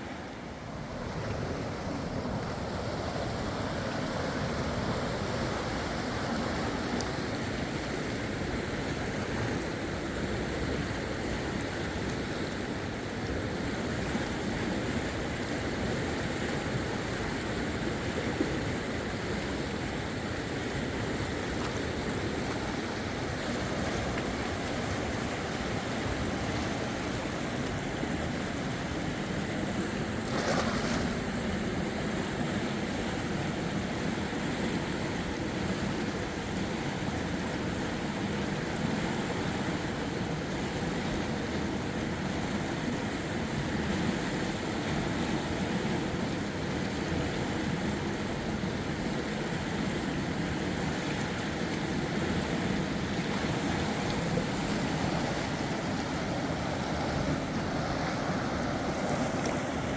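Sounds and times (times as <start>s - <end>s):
fast river water rushing: 0.0s - 59.9s.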